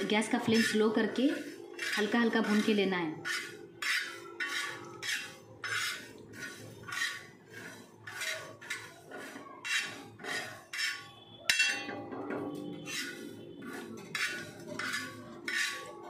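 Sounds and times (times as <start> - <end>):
spatula scraping seeds on iron: 0.0 - 11.9, 12.6 - 16.0.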